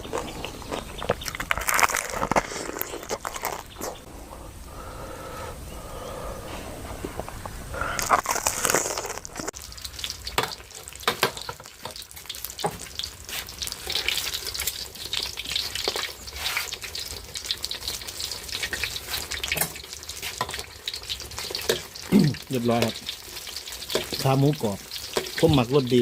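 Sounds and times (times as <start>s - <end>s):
oil sizzling crackling and popping: 0.0s - 4.7s, 7.1s - 26.0s.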